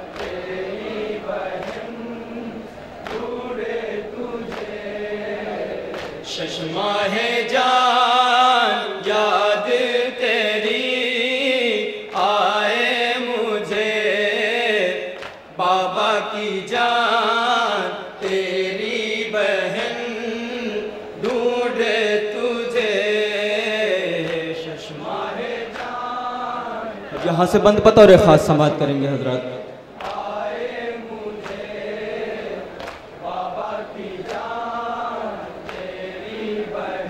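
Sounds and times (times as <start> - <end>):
men chanting into microphones: 0.0 - 37.0.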